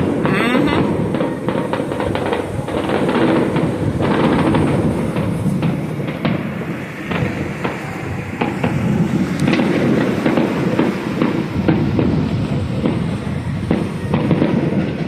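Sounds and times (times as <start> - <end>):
fireworks pops and bangs: 0.0 - 15.0
fireworks rumble: 0.0 - 15.0.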